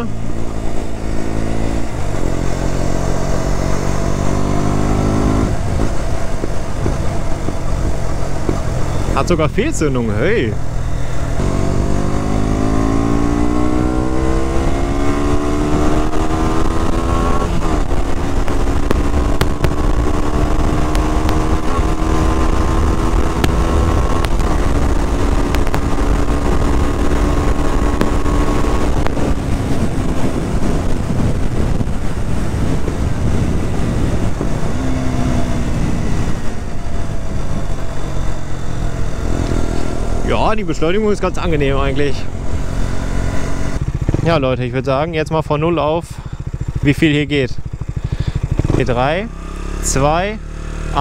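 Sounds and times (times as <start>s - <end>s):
wind on microphone: 0.0s - 9.0s, 10.6s - 44.3s
motorcycle engine accelerating: 0.0s - 51.0s.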